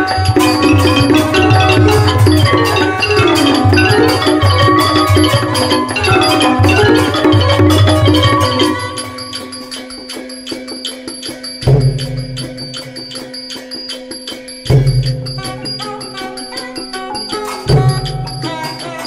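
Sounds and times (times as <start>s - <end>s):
mallet percussion ensemble: 0.0s - 19.0s.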